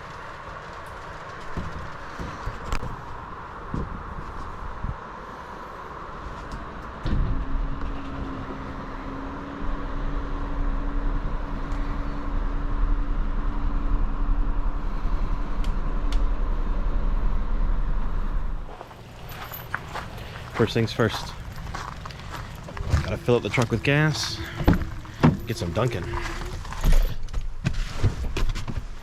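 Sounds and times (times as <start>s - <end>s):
engine humming: 0.0s - 27.6s
low rumble of driving: 0.0s - 29.0s.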